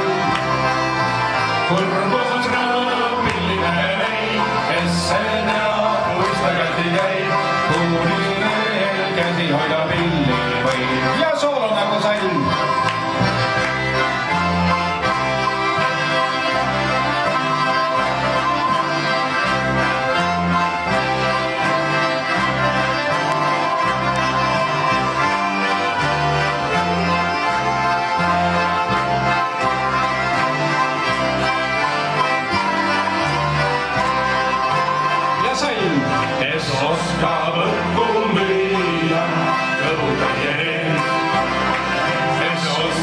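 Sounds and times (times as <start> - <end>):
button accordions playing folk tune: 0.0 - 43.0.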